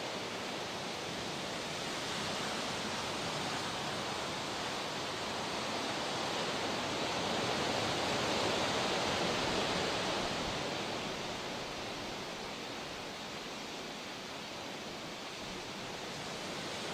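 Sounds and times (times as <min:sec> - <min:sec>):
water rushing: 0:00.0 - 0:16.9.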